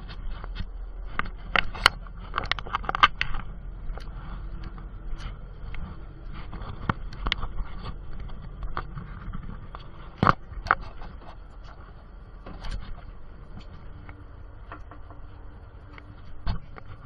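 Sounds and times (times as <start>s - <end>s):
boat engine rumble: 0.0s - 17.0s
gear knocking and scraping: 0.0s - 17.0s.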